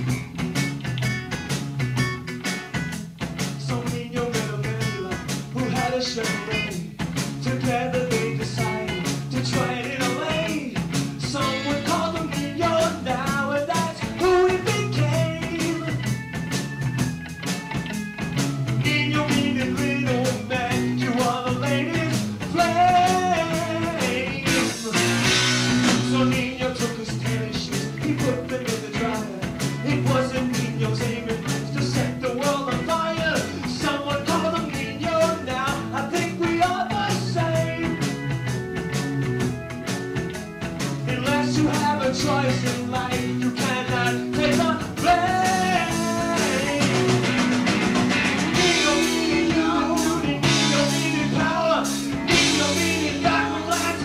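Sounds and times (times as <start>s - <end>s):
bass guitar: 0.0s - 54.0s
drums with steady beat: 0.0s - 54.0s
electric guitar: 0.0s - 54.0s
person singing: 3.6s - 16.0s, 18.8s - 38.2s, 41.1s - 47.4s, 48.5s - 54.0s.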